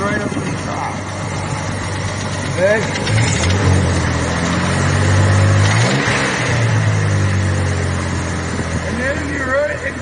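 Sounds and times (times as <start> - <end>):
inline-six engine running: 0.0 - 10.0.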